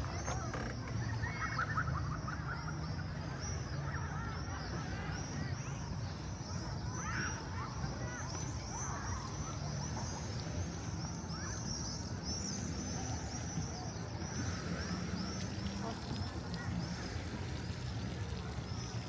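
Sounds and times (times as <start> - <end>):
murmur of voices: 0.0 - 19.0
street noise: 0.0 - 19.0.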